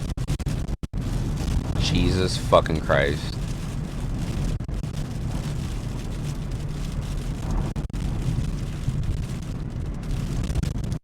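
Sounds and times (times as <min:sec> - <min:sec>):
car road and wind rumble: 0:00.0 - 0:11.0
wind buffeting car: 0:00.1 - 0:11.0.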